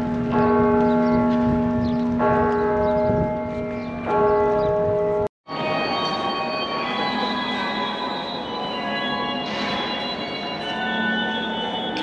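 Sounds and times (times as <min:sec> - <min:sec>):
large church bell tolling: 0:00.0 - 0:12.0.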